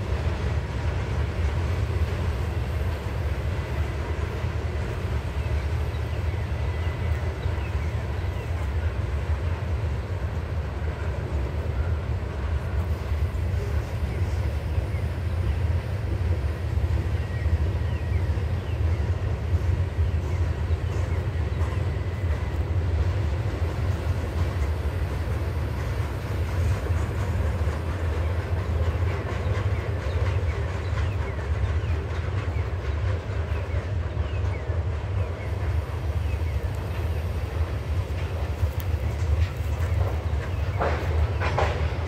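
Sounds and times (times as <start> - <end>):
freight train rumbling past: 0.0 - 42.0.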